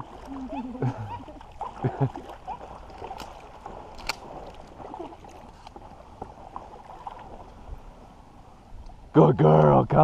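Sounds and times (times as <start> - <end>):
water lapping and sloshing: 0.0 - 9.1.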